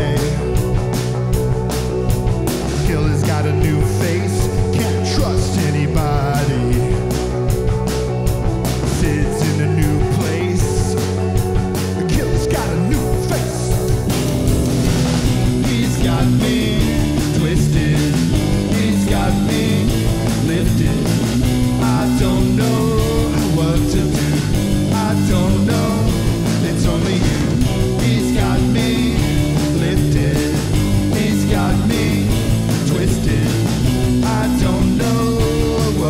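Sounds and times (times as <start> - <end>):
rock band playing: 0.0 - 36.0.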